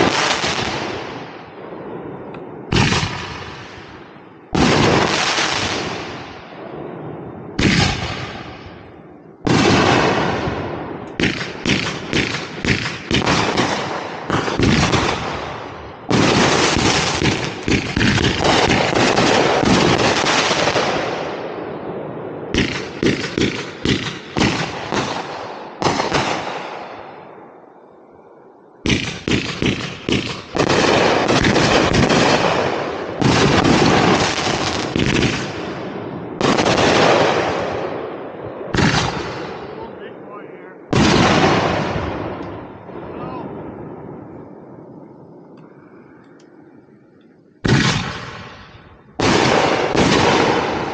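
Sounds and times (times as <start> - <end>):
fireworks bangs and cracks: 0.0 - 27.4, 28.8 - 44.6, 47.6 - 50.9.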